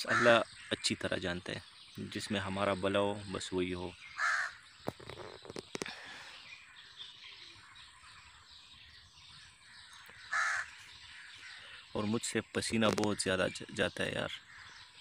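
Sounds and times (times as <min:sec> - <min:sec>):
bird calling: 0:00.0 - 0:15.0
faint outdoor background: 0:00.0 - 0:15.0.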